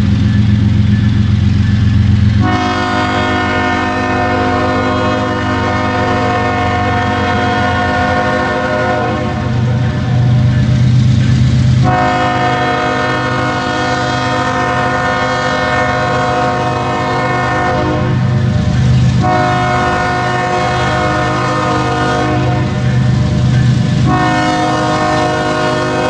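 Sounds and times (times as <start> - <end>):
train rumble: 0.0 - 26.0
locomotive air horn blasts: 2.3 - 10.4, 11.8 - 26.0.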